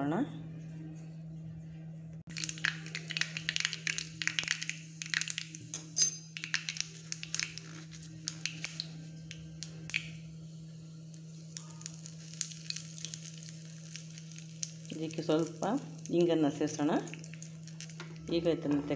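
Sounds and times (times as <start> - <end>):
seeds popping in hot oil: 2.3 - 10.3, 11.0 - 18.4.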